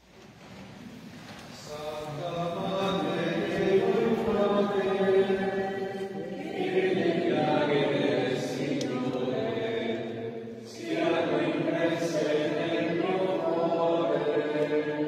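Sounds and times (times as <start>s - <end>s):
group singing a slow hymn: 1.5s - 15.0s.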